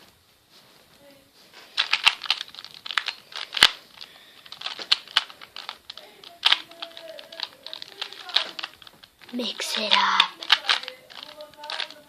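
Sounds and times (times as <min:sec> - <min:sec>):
puzzle cube clicking and rattling: 0:01.7 - 0:12.0.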